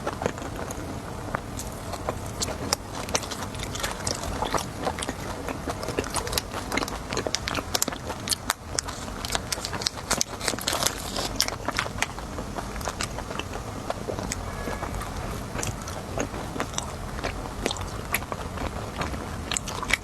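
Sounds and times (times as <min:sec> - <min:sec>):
crunchy snack chewing: 0:00.0 - 0:20.0.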